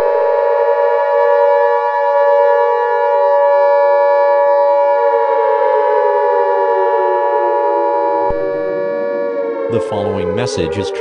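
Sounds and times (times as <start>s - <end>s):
civil defense siren wailing: 0.0s - 11.0s.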